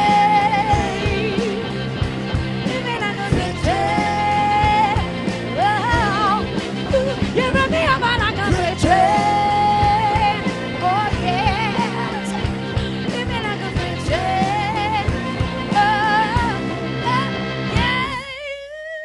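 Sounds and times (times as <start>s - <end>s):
woman singing with vibrato: 0.0s - 1.9s, 2.6s - 19.0s
harmonica: 0.0s - 18.2s
drum kit: 0.0s - 18.3s
bass guitar: 0.0s - 18.4s
electric guitar: 0.0s - 19.0s.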